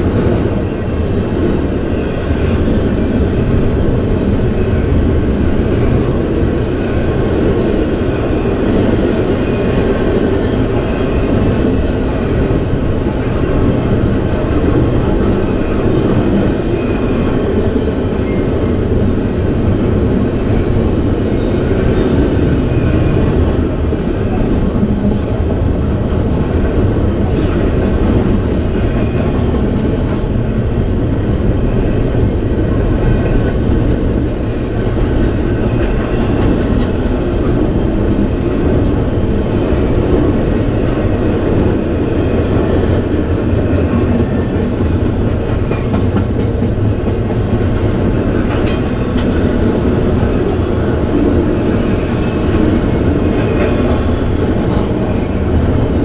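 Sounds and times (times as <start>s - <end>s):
freight train rumbling past: 0.0s - 56.0s
train wheels clicking: 0.0s - 56.0s.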